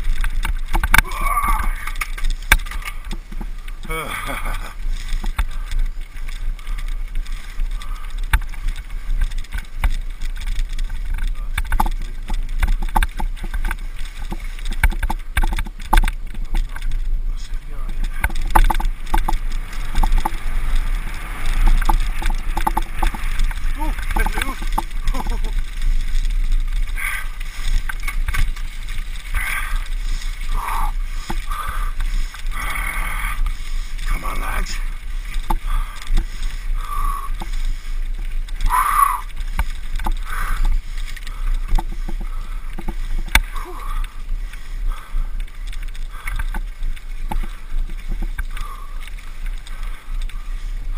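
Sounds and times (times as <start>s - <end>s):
bike rattling over ground: 0.0s - 50.9s
wind rumbling on microphone: 0.0s - 50.9s.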